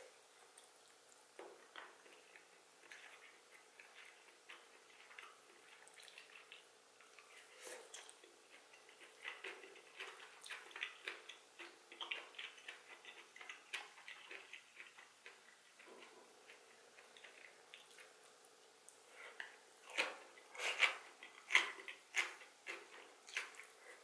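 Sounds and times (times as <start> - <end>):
mouth chewing: 1.6 - 24.0.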